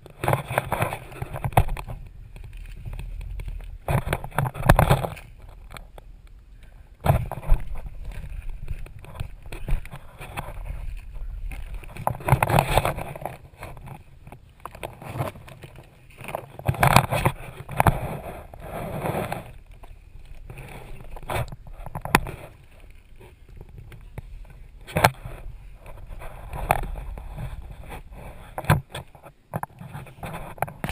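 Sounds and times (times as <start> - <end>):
rustling and scraping over dirt: 0.0 - 30.9.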